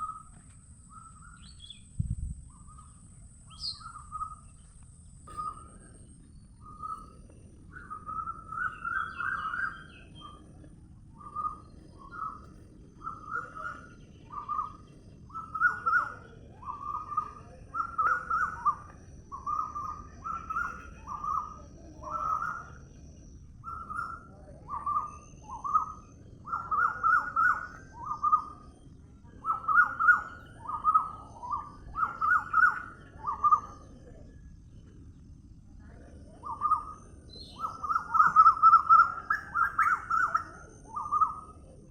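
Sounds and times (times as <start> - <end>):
bird calling: 0.0 - 1.9, 2.5 - 23.0, 23.6 - 35.0, 35.9 - 41.9.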